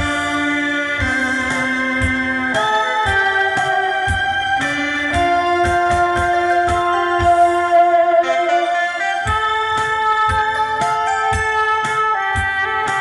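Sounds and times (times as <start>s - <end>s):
backing track with steady beat: 0.0s - 13.0s
saxophone melody: 0.0s - 13.0s.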